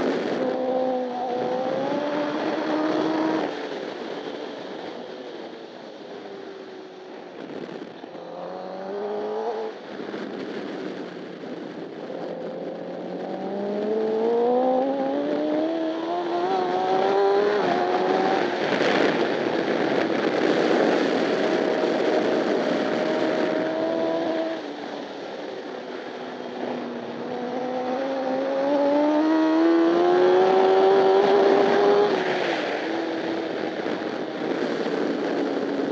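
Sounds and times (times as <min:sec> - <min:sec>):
motorcycle engine revving: 0:00.0 - 0:04.9, 0:12.0 - 0:35.9.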